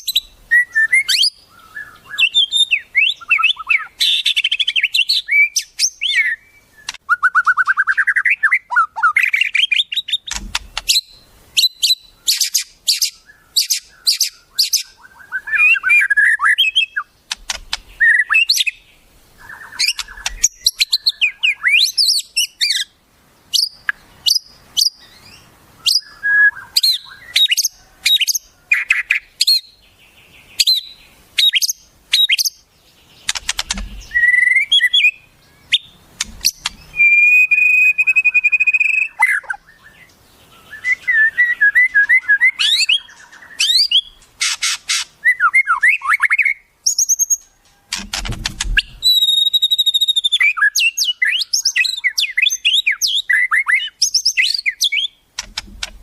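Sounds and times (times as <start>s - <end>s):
songbird calls: 0.0s - 56.0s.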